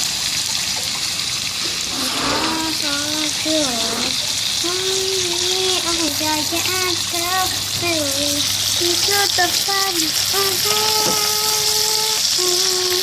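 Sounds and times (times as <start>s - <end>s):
meat sizzling in oil: 0.0s - 13.0s
person humming a tune: 1.7s - 8.2s, 8.8s - 13.0s.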